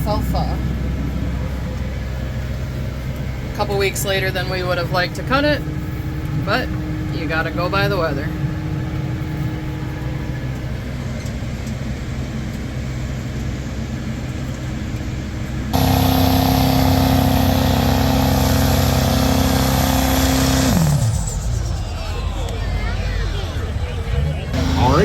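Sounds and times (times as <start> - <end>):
farm machinery engine running: 0.0 - 22.5, 24.0 - 25.0.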